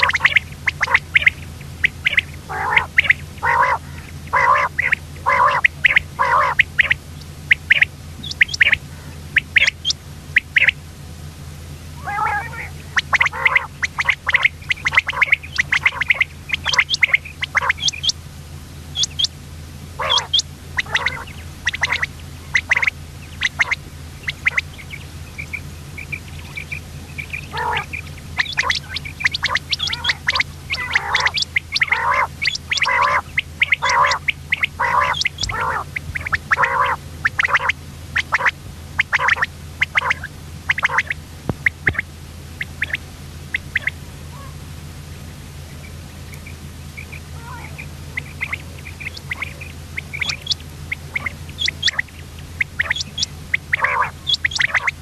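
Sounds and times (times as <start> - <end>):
quail calling: 0.0 - 10.8, 11.5 - 18.2, 18.9 - 55.0
steady low hum: 0.0 - 55.0.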